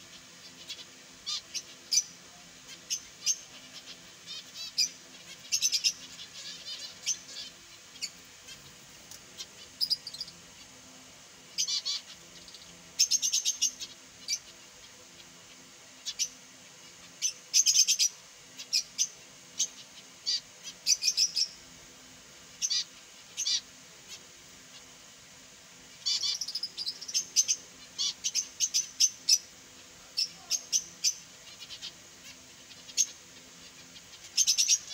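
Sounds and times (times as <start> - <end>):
finches chirping: 0.0 - 21.7, 22.4 - 25.2, 25.8 - 34.9.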